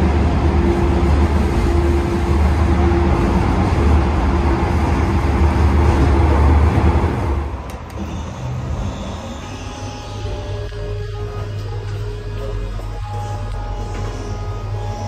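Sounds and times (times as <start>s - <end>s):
locomotive diesel engine drone: 0.0s - 15.0s.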